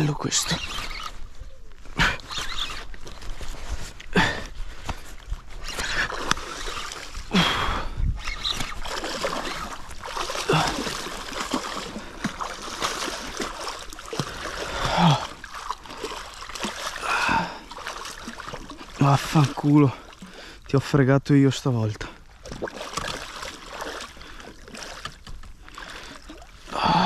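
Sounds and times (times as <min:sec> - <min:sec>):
fish thrashing and splashing: 0:00.4 - 0:20.5, 0:22.2 - 0:26.9.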